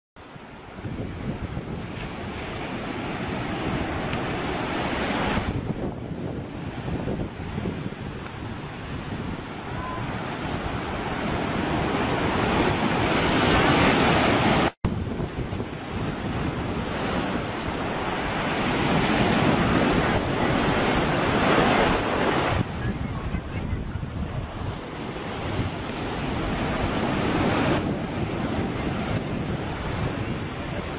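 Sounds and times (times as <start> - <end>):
wind buffeting microphone: 0.2 - 30.9
small surf breaking and washing: 0.3 - 30.9.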